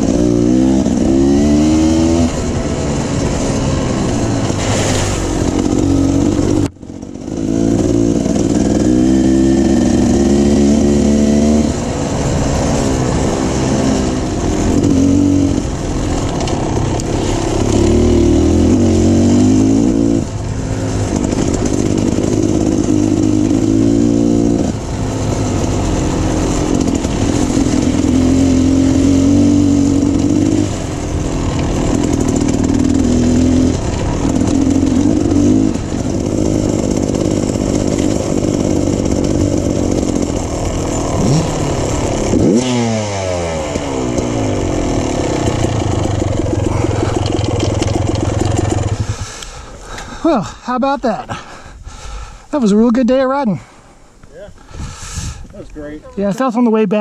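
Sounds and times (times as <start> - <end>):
dirt bike engine revving: 0.0 - 53.6.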